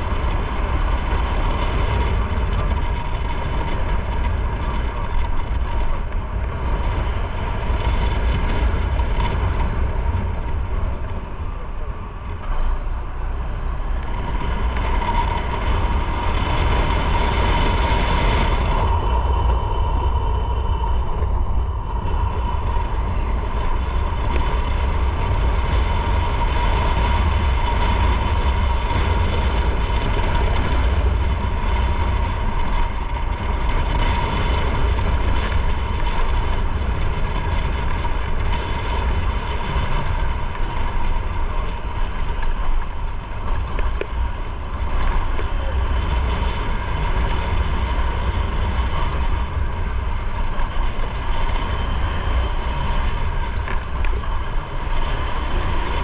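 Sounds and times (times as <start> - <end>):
motorcycle engine running: 0.0 - 56.0
steady high whine: 0.0 - 56.0
wind rumble on microphone: 0.0 - 56.0.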